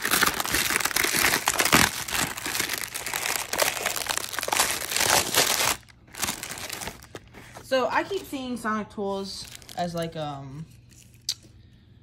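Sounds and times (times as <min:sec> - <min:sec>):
plastic wrap crinkling: 0:00.0 - 0:08.6, 0:09.2 - 0:11.3.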